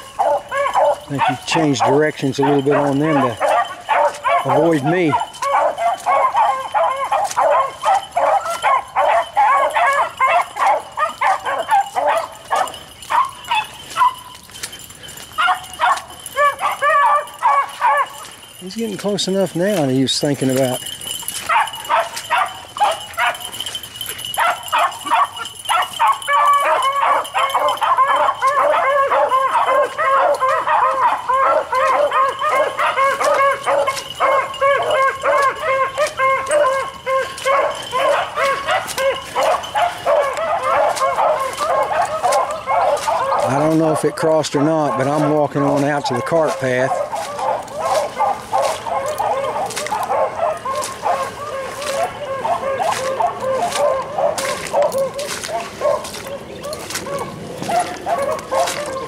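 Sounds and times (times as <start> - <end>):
beagles baying: 0.0 - 59.0
dogs barking rapidly: 0.0 - 59.0.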